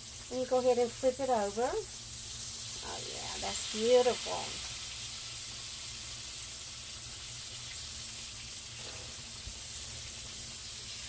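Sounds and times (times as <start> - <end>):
chicken frying in hot grease: 0.0 - 11.0.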